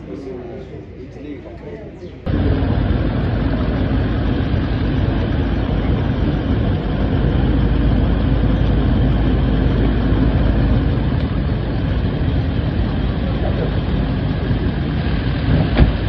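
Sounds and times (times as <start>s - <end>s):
suv engine idling: 2.3s - 16.0s.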